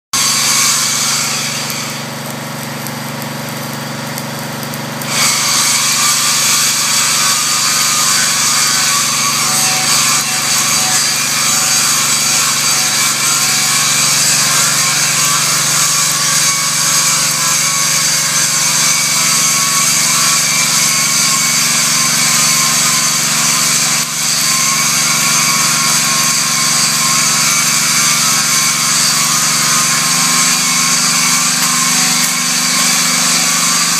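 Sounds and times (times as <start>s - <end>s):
welding arc sizzling: 0.2s - 33.9s.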